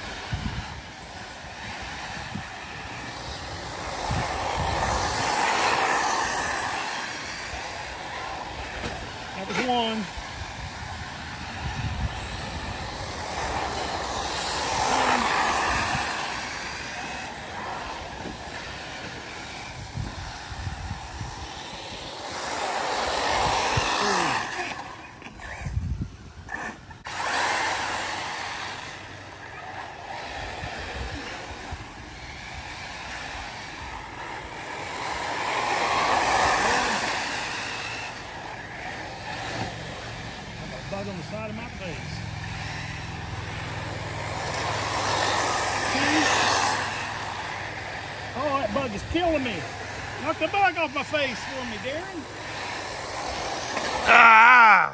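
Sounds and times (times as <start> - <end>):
electric rc cars passing: 0.0 - 54.9.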